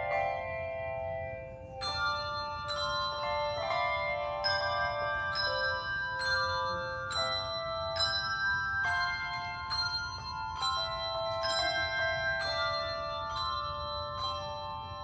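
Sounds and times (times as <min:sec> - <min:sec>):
church bells ringing a tune: 0:00.0 - 0:15.0.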